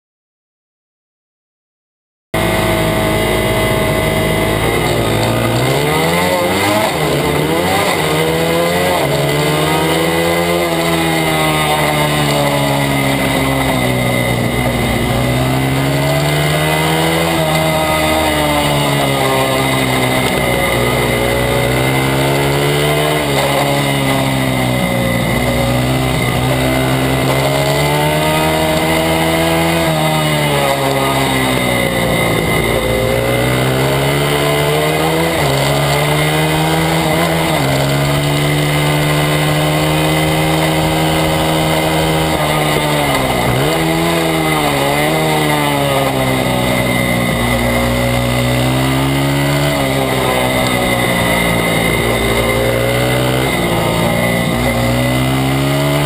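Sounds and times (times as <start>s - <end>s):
motorcycle engine revving: 2.4s - 56.0s
tyre noise: 2.4s - 56.0s.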